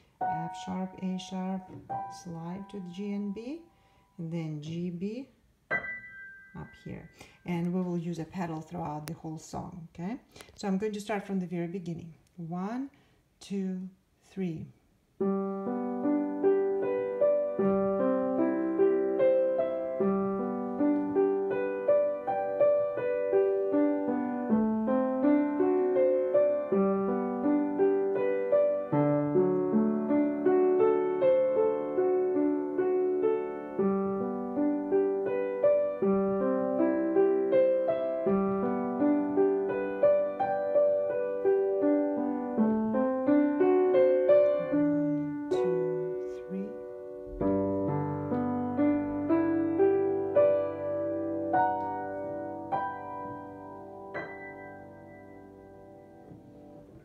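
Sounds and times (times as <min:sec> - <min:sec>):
slow piano piece: 0:00.0 - 0:09.1, 0:15.1 - 0:57.0.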